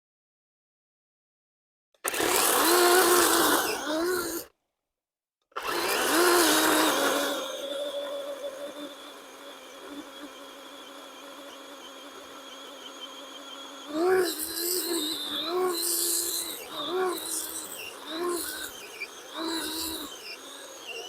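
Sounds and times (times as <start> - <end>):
electric chainsaw cutting wood: 2.0 - 4.5, 5.6 - 21.0.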